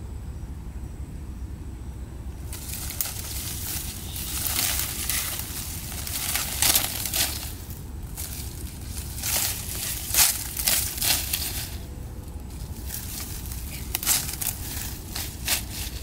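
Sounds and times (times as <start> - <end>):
bush branches rustling and crackling: 2.3 - 16.0.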